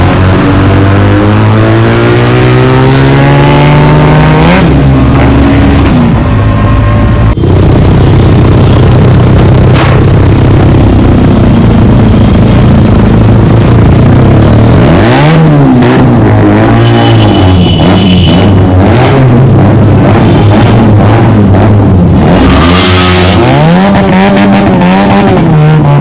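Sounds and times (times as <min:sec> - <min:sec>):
motorcycle engine running hard: 0:00.0 - 0:23.7.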